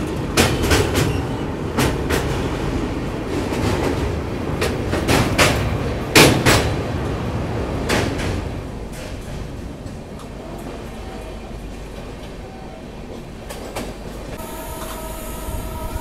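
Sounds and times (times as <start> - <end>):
moving train rumble: 0.0 - 16.0.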